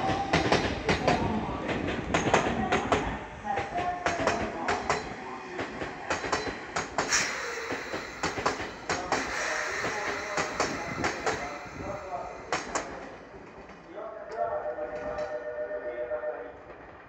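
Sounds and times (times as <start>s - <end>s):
train wheels clacking over rail joints: 0.0s - 13.9s.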